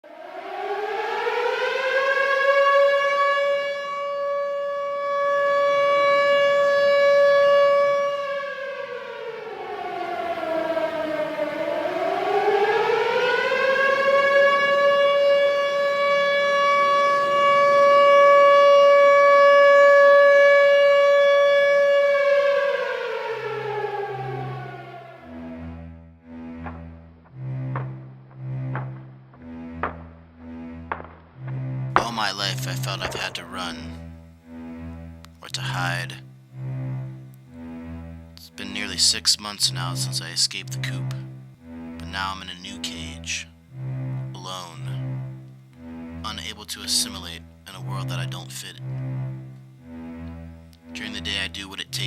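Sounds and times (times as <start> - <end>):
civil defense siren wailing: 0.0 - 52.0.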